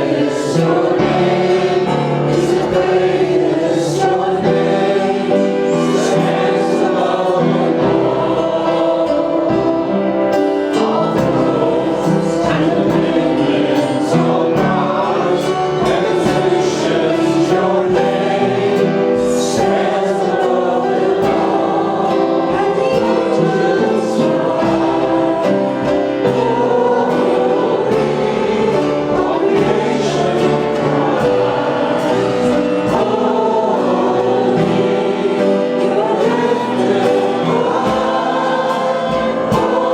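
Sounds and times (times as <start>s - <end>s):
group singing worship song: 0.0s - 39.9s
instrumental accompaniment: 0.0s - 39.9s.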